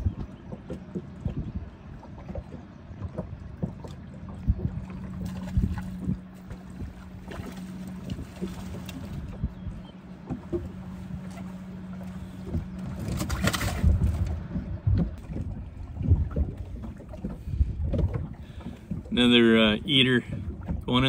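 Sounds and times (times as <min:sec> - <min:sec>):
steady low hum: 0:00.0 - 0:21.0
water noise: 0:00.0 - 0:21.0
wind: 0:00.0 - 0:21.0.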